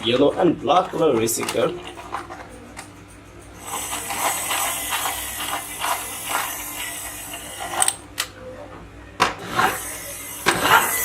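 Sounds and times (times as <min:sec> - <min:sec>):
toy car whirring: 0:00.8 - 0:08.0, 0:09.3 - 0:11.0.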